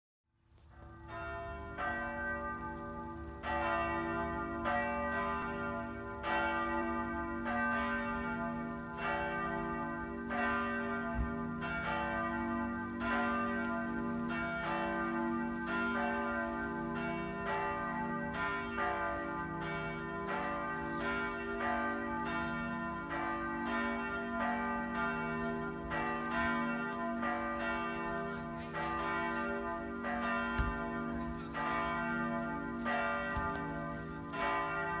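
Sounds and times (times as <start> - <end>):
church bells ringing: 0.6 - 35.0.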